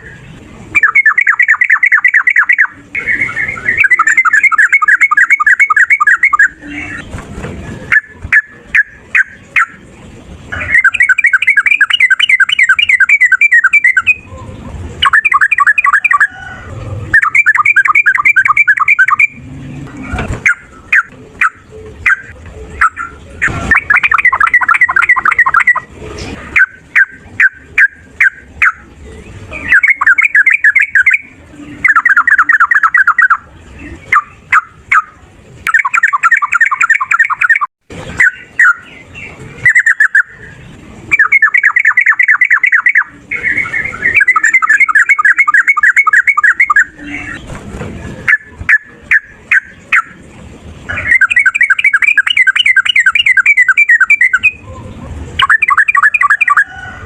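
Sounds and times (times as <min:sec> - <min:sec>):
bird chattering trills: 0:00.0 - 0:07.1, 0:10.5 - 0:19.4, 0:20.2 - 0:47.5, 0:48.2 - 0:57.0
sharp bird notes: 0:00.0 - 0:07.1, 0:10.5 - 0:14.3, 0:15.0 - 0:25.9, 0:26.6 - 0:47.5, 0:50.9 - 0:54.7, 0:55.4 - 0:56.9.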